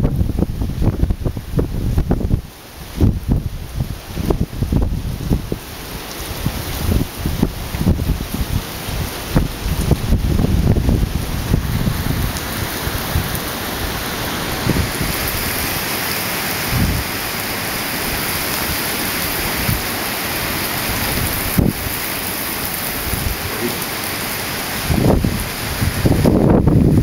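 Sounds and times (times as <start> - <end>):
wind buffets on microphone: 0.0 - 16.0, 16.6 - 23.8, 24.7 - 27.0
heavy rain pouring: 0.0 - 27.0
wind gusting: 0.0 - 27.0.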